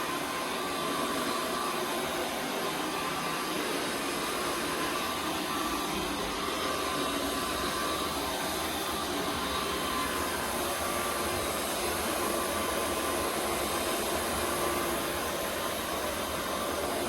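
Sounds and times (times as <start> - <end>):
vacuum machine rushing hiss: 0.0 - 17.0.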